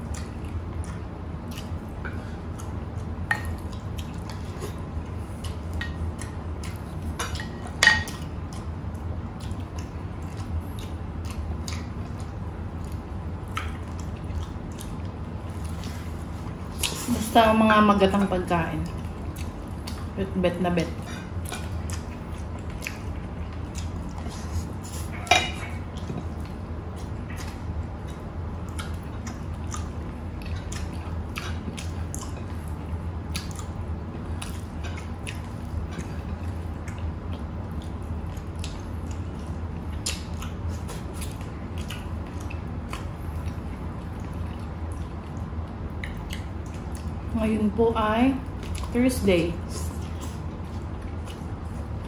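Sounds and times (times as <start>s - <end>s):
chewing clicks: 0.0s - 4.8s, 5.4s - 15.9s, 18.8s - 20.2s, 21.4s - 24.7s, 25.9s - 47.3s, 48.5s - 49.0s
steady low hum: 0.0s - 52.0s.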